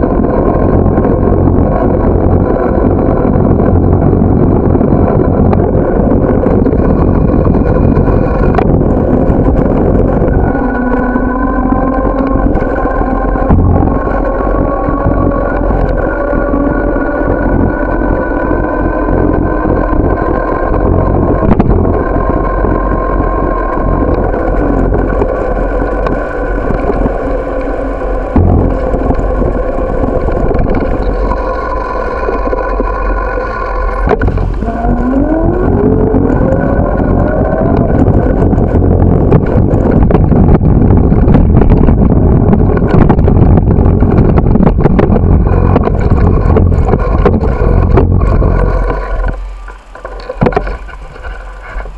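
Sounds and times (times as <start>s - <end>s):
bicycle mechanical whine: 0.0s - 51.9s
wind and road rumble: 0.0s - 51.9s.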